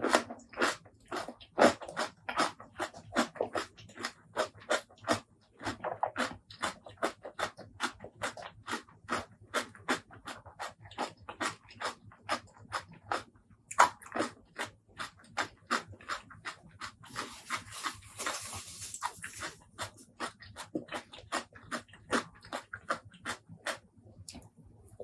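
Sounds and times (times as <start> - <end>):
wet chewing and mouth clicks: 0.0 - 25.0.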